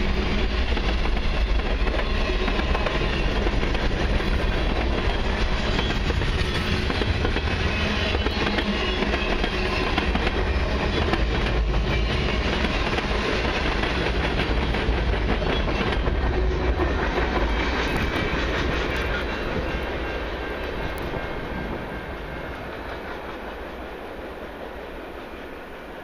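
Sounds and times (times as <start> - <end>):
train wheels clattering over rails: 0.0 - 25.4
train cars rumbling: 0.0 - 26.0.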